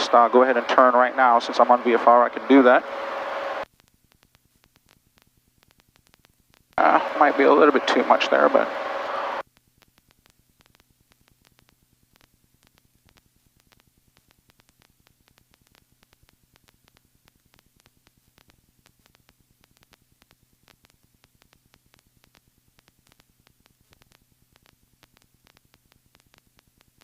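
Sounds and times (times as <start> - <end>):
faint static crackle: 0.0 - 27.0
low steady hum: 0.0 - 27.0.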